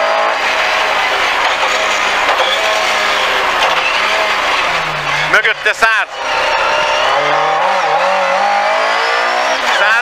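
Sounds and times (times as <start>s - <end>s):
car engine running hard: 0.0s - 10.0s
tyre and road noise: 0.0s - 10.0s.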